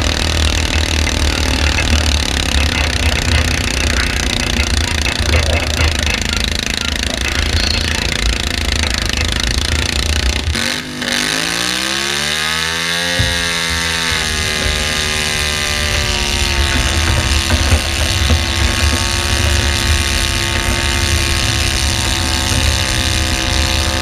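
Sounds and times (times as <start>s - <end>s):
engine revving up: 0.0s - 24.0s
tractor engine running hard: 0.0s - 24.0s.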